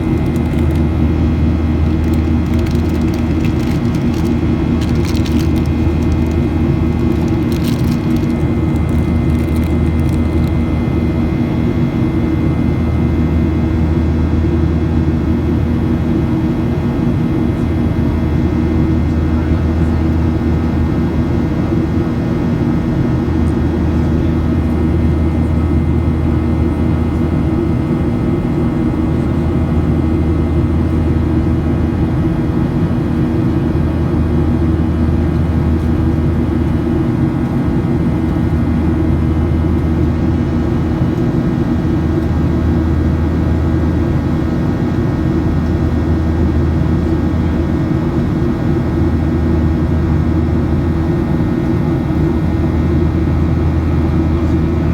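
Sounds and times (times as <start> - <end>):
jet engines droning in cabin: 0.0 - 54.9.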